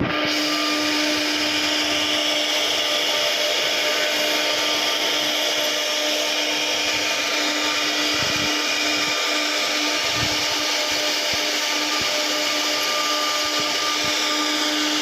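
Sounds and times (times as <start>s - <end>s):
cnc router spindle humming: 0.0s - 15.0s
rushing cutting noise: 0.0s - 15.0s.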